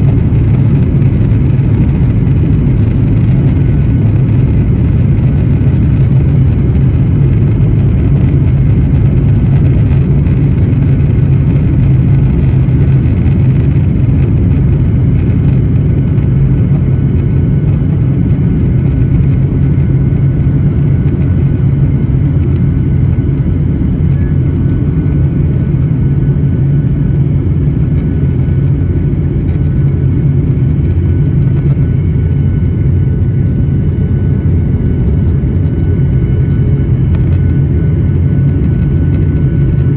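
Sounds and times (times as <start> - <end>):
faint high engine whine: 0.0 - 39.9
jet engines rumbling: 0.0 - 39.9.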